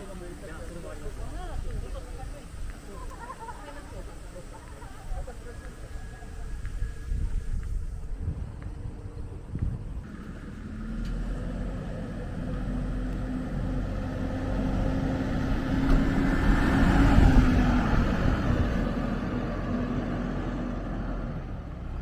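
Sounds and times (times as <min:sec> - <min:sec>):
bus engine humming: 0:00.0 - 0:22.0
tyre and road rumble: 0:00.0 - 0:22.0.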